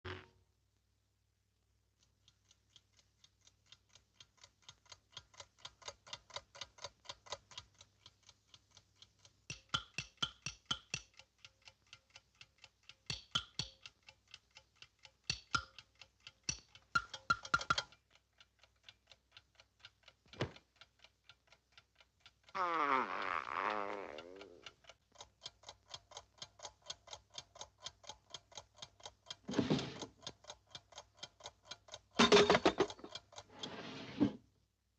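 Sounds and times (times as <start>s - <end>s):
clock-like ticking: 1.9s - 22.6s, 23.4s - 33.8s.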